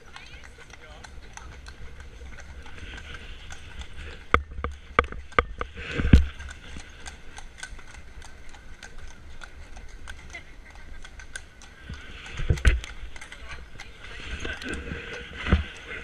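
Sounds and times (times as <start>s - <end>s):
horse hooves on cobblestones: 0.0s - 16.0s.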